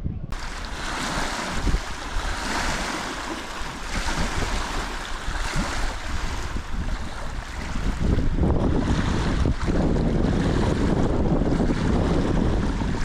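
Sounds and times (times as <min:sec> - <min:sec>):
wind gusting against microphone: 0:00.0 - 0:13.0
small lake waves washing on shore: 0:00.3 - 0:13.0.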